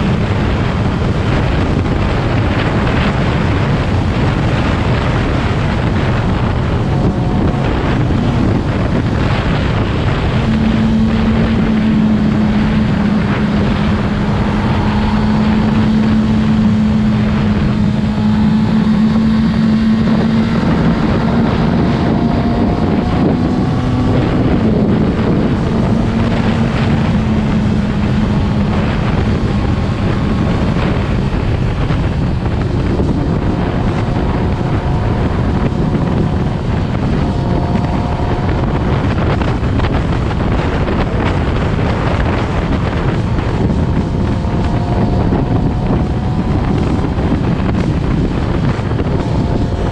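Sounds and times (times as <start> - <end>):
motorcycle engine running: 0.0 - 49.9
steady humming tone: 0.0 - 49.9
wind buffeting microphone: 0.0 - 49.9.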